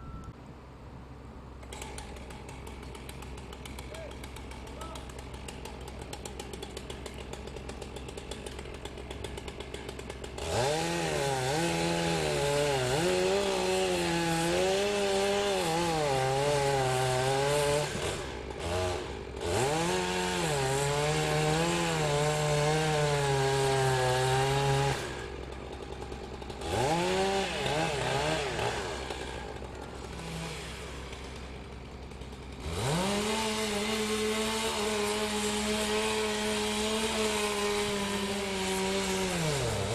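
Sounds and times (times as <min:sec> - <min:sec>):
chainsaw cutting into tree: 0:01.6 - 0:39.9.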